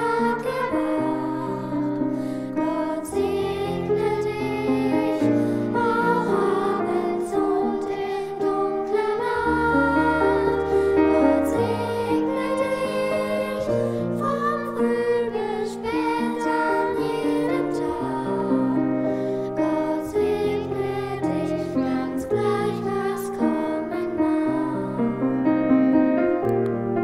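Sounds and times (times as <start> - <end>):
gentle slow music: 0.0 - 27.0.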